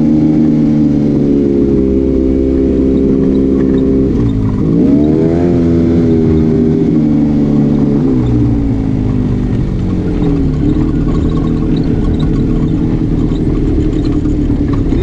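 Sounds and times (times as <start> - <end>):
side-by-side engine running: 0.0 - 15.0.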